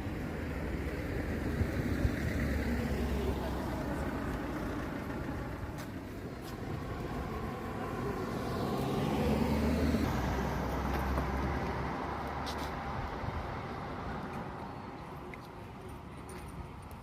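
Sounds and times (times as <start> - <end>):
vehicle passing: 0.0 - 15.4.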